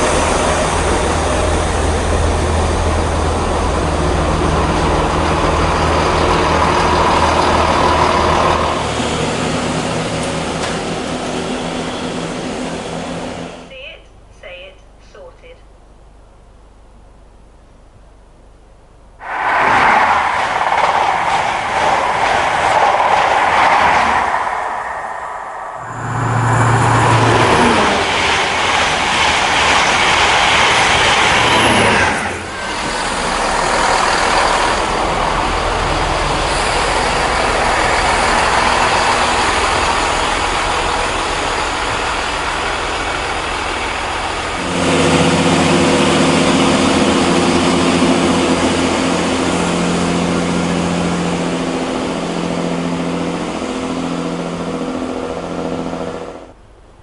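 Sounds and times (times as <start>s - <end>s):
train wheels on jointed track: 0.0s - 13.6s, 19.5s - 56.5s
diesel engine drone: 0.0s - 14.6s, 15.8s - 57.0s.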